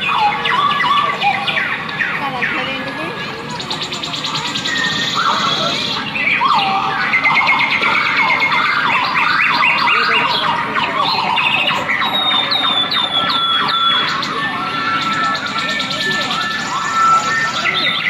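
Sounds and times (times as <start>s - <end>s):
chorus of bird calls: 0.0s - 18.0s.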